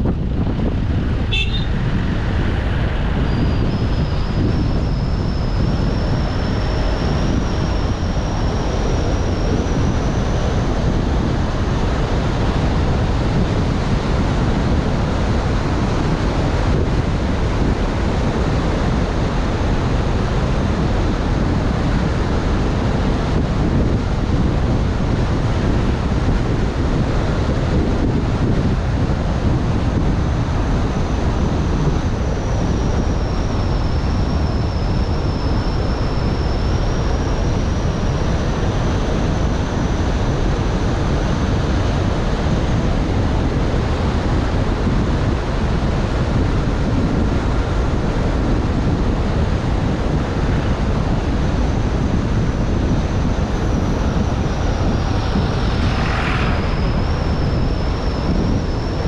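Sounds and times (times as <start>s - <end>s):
car road and wind noise: 0.0s - 59.0s
faint high whine: 0.0s - 59.0s.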